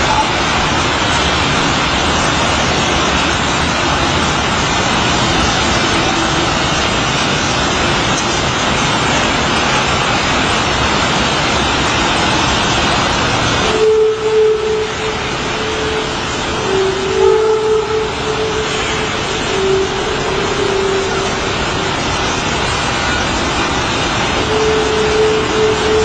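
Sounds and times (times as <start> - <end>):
loud steady rumbling: 0.0 - 26.0
steady humming tone: 0.0 - 26.0.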